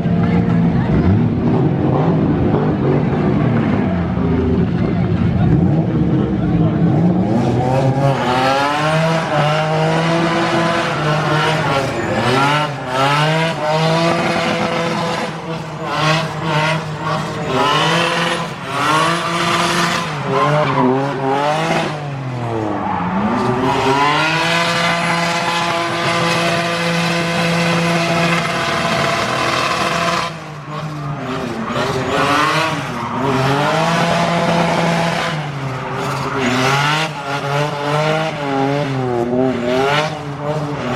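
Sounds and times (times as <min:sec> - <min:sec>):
car engine revving high: 0:00.0 - 0:40.9.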